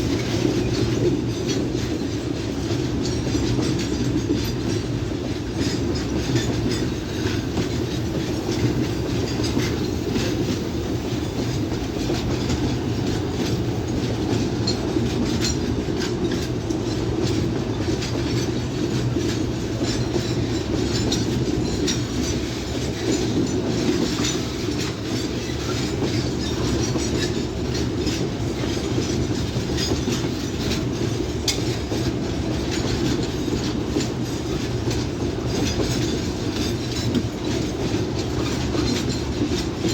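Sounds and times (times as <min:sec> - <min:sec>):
freight train rumbling: 0:00.0 - 0:39.9
wheels clattering over rail joints: 0:00.0 - 0:39.9.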